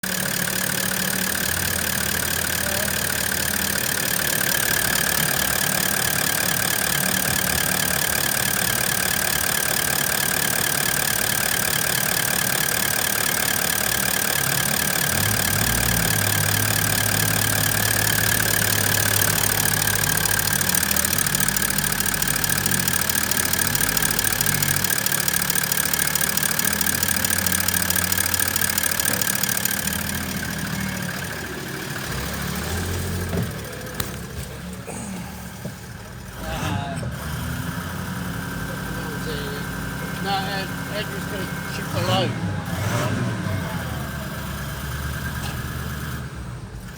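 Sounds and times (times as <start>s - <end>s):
diesel engine idling: 0.0s - 46.9s
high engine whine: 0.0s - 46.9s.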